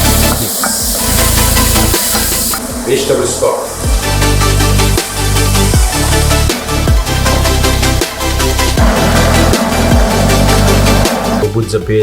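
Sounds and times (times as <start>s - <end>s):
electronic dance music: 0.0s - 11.6s.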